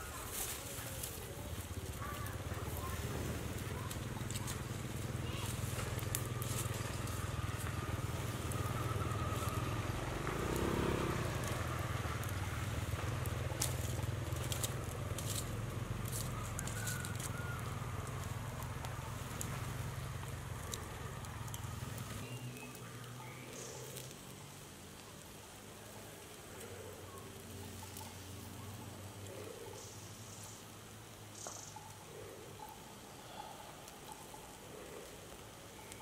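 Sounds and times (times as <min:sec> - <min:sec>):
sharp crackles and clicks: 0:00.0 - 0:33.1, 0:33.8 - 0:36.0.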